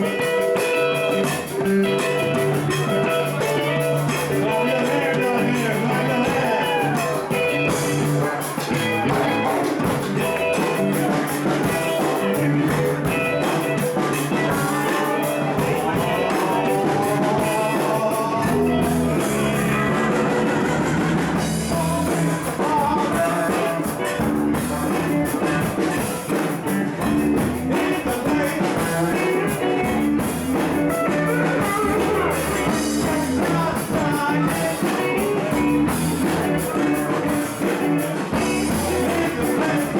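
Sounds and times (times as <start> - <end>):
bass: 0.0 - 39.9
drum kit: 0.0 - 39.9
electric guitar with bends: 0.0 - 39.9.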